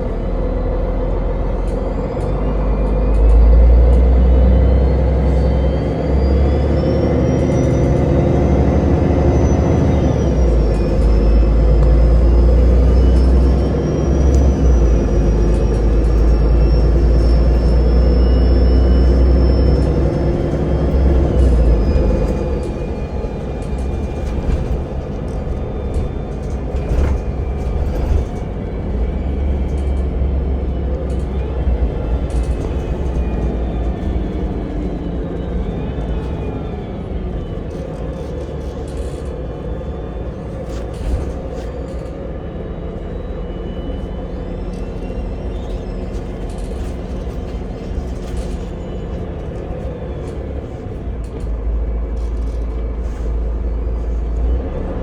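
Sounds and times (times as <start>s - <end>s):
vehicle interior low rumble: 0.0s - 55.0s.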